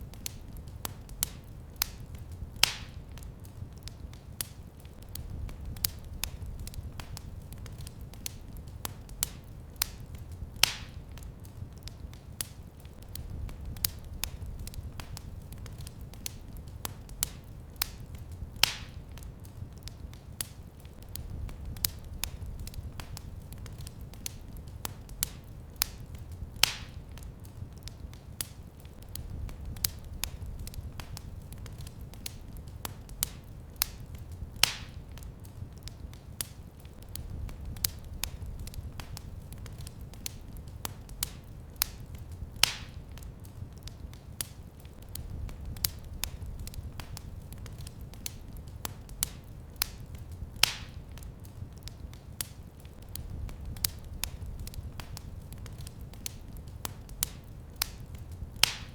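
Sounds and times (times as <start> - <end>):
fire pops and snaps: 0.0 - 58.9
low rumble of flames: 0.0 - 58.9
wood fire crackling: 0.0 - 58.9.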